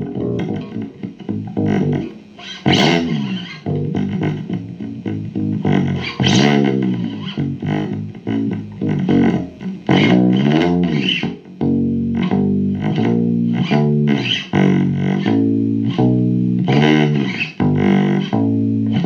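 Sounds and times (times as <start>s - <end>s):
guitar picking with bent notes: 0.0s - 19.0s.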